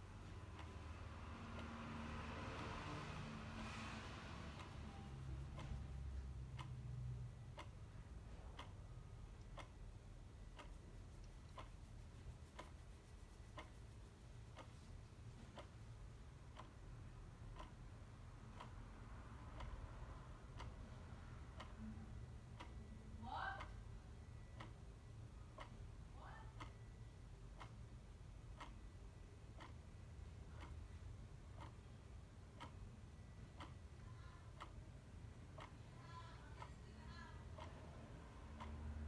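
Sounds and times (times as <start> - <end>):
clock ticking: 0.0 - 39.0
low steady hum: 0.0 - 39.0.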